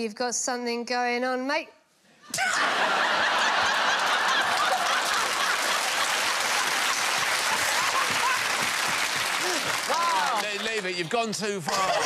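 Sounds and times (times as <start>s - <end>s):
studio audience laughing and applauding: 2.3s - 12.0s.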